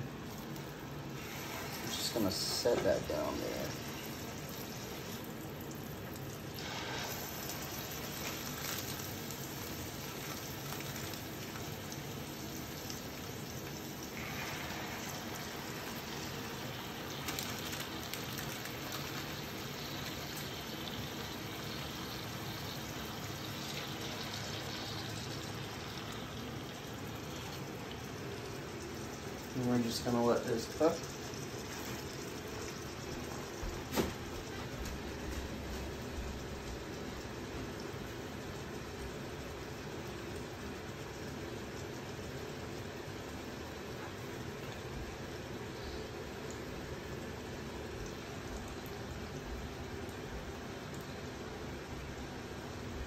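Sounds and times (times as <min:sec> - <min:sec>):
chicken sizzling in a frying pan: 0:00.0 - 0:52.9.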